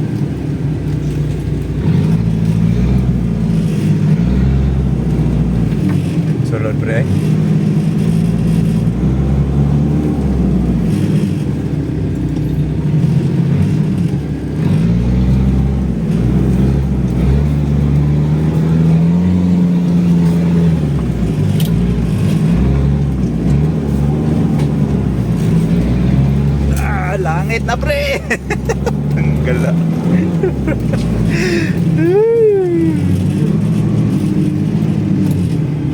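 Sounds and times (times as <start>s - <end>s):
off-road engine revving: 0.0s - 35.9s.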